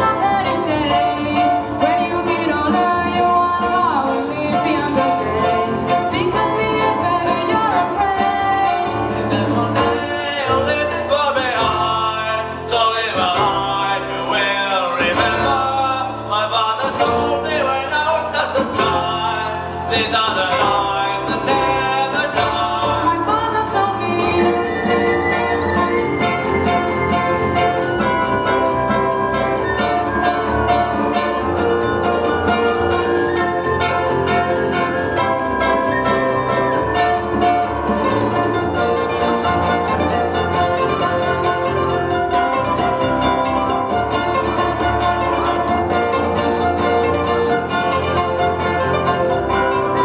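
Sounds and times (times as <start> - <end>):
acoustic guitar: 0.0 - 50.0
bass: 0.0 - 50.0
drums: 0.0 - 50.0
mandolin: 0.0 - 50.0.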